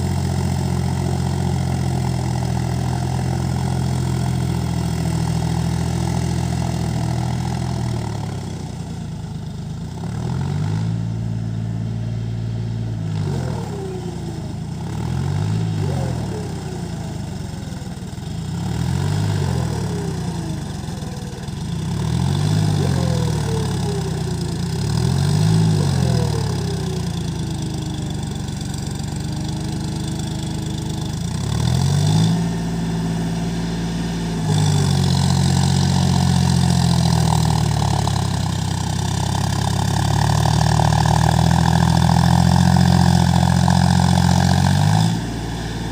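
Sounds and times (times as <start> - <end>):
tractor diesel engine revving: 0.0 - 45.9.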